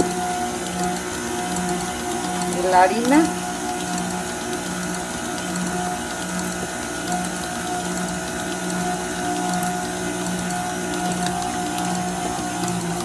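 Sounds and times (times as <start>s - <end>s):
stand mixer whirring: 0.0s - 13.0s.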